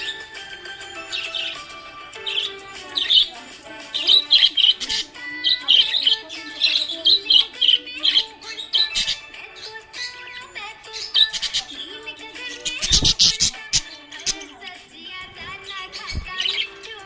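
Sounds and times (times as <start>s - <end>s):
budgerigar chirping: 0.0s - 14.6s, 15.2s - 16.9s
background music with held notes: 0.0s - 17.0s.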